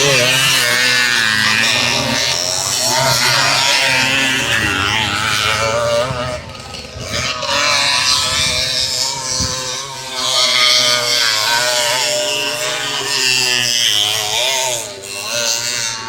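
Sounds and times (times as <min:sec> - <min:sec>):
two-stroke dirt bike engines revving: 0:00.0 - 0:16.0.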